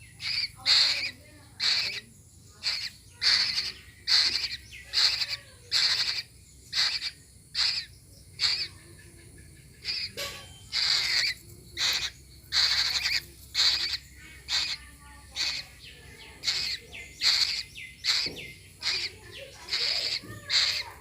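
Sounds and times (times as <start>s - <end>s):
nestling bird begging calls: 0.0s - 9.1s, 9.8s - 21.0s.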